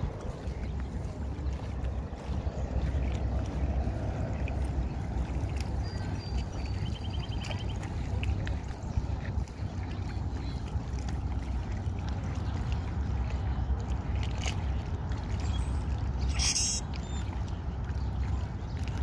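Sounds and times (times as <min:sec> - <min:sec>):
low wind rumble on microphone: 0:00.0 - 0:19.0
river water lapping at shore: 0:00.0 - 0:19.0.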